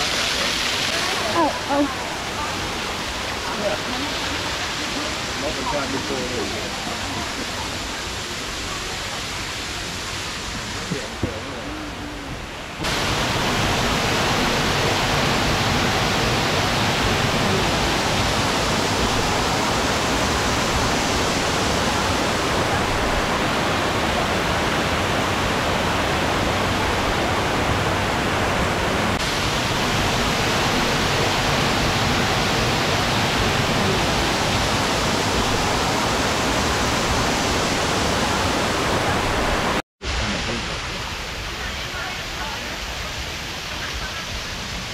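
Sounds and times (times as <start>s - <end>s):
water rushing over waterfall: 0.0s - 44.9s.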